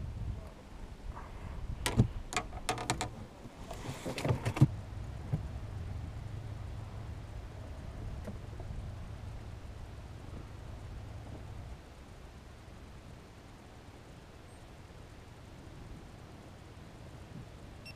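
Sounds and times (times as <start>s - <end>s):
low steady rumble: 0.0s - 17.9s.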